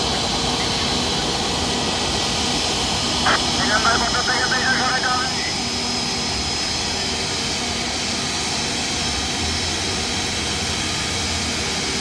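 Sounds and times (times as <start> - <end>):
airliner engines running: 0.0 - 12.0.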